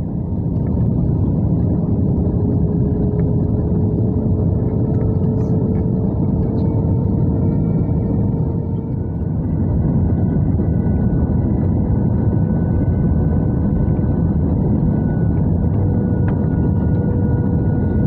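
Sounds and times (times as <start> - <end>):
engine and airflow rush: 0.0 - 18.0
faint humming tone: 0.0 - 18.0.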